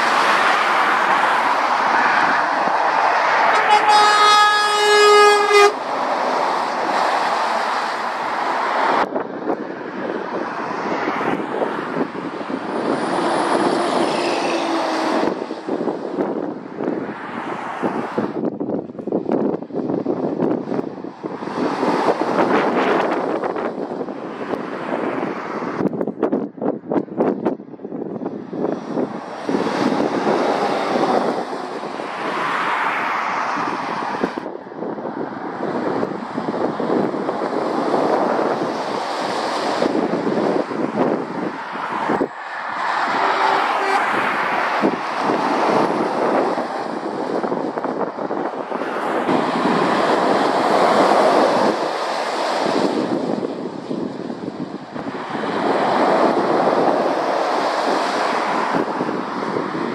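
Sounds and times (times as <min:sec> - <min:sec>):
diesel lorries passing: 0:00.0 - 0:25.9, 0:28.2 - 0:34.5, 0:35.1 - 0:59.9
wind buffeting microphone: 0:00.0 - 0:59.9.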